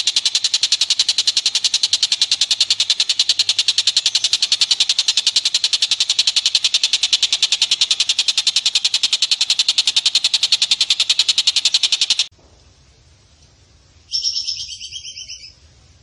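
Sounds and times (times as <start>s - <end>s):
rapid chattering call: 0.0s - 12.3s, 14.1s - 15.6s.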